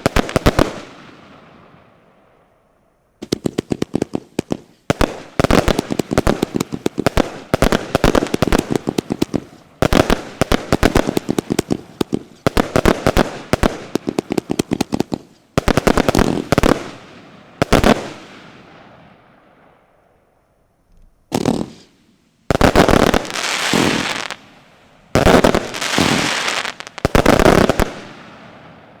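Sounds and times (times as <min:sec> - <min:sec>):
fireworks crackling: 0:00.0 - 0:01.5, 0:03.2 - 0:18.7, 0:21.0 - 0:29.0
fireworks bangs: 0:00.0 - 0:01.8, 0:03.2 - 0:19.0, 0:21.3 - 0:29.0.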